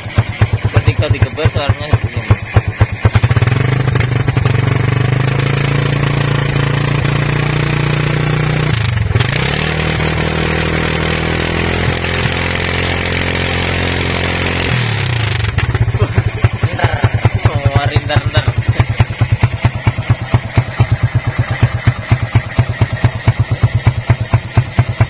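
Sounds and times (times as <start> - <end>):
motorcycle engine idling: 0.0 - 25.0
motorcycle engine revving: 0.0 - 25.0.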